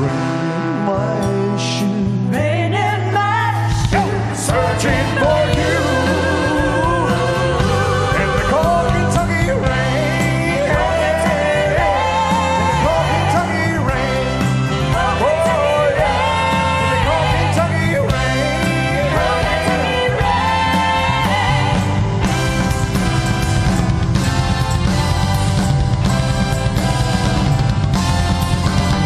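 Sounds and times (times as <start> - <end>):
live band playing a ballad: 0.0 - 29.0.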